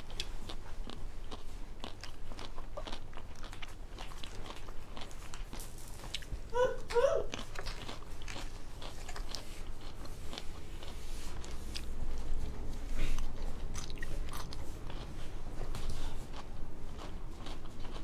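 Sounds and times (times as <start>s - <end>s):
crunchy chewing of food: 0.0s - 18.0s.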